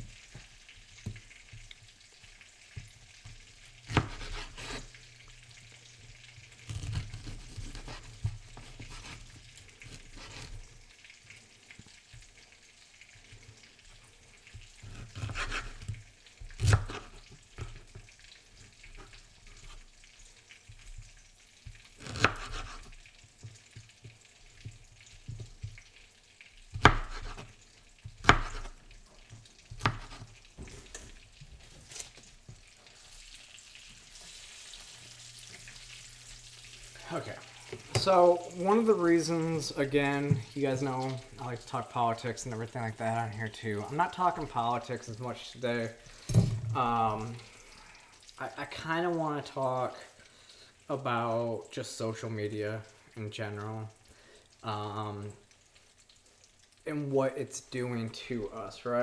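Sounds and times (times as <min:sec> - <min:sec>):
sausage sizzling in a frying pan: 0:00.0 - 0:59.0.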